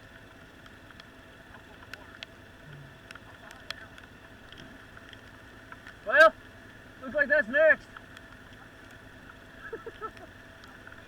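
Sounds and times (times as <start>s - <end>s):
faint steady hum with tones: 0.0s - 11.0s.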